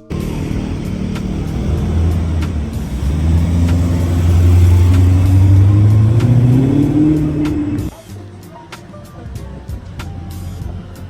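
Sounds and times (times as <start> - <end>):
car engine accelerating: 0.0 - 11.0
music with beat: 0.0 - 11.0.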